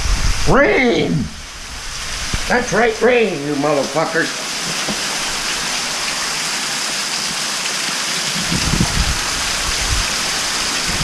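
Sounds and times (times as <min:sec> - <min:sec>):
heavy rain pouring: 0:00.0 - 0:11.0
water streaming onto pavement: 0:00.0 - 0:11.0.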